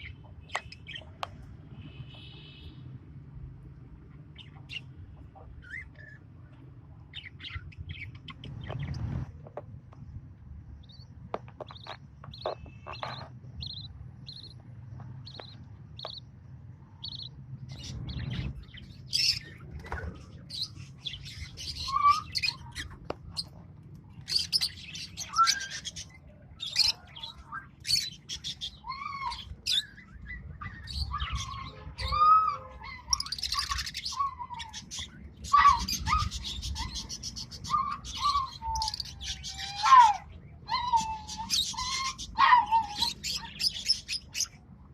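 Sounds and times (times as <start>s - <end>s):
lovebirds chirping: 7.0s - 9.2s, 10.7s - 44.6s.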